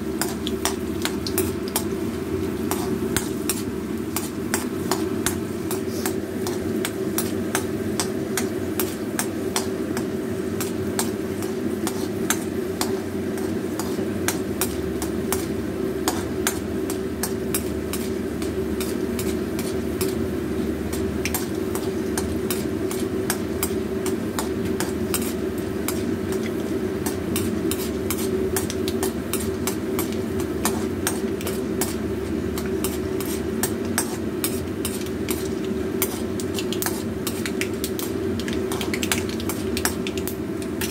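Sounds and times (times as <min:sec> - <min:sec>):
food crackling in hot oil: 0:00.0 - 0:40.9
steady hum: 0:00.0 - 0:40.9.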